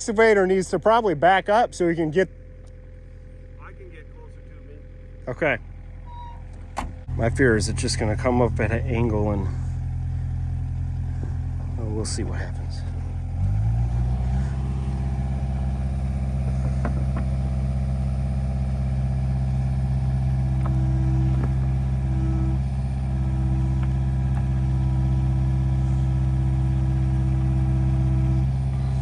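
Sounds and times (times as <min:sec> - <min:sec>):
heavy equipment engine running: 0:00.0 - 0:29.0.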